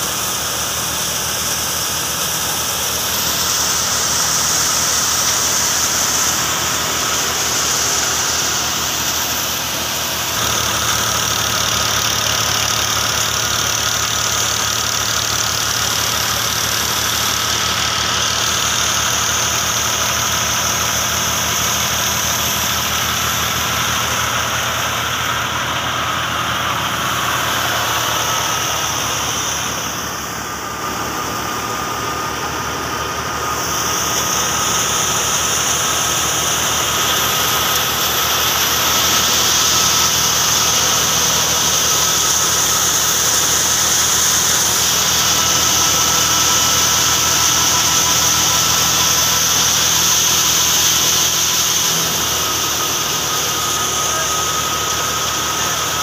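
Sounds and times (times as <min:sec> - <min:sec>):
thresher high whine: 0:00.0 - 0:56.0
tractor engine drone: 0:00.0 - 0:56.0.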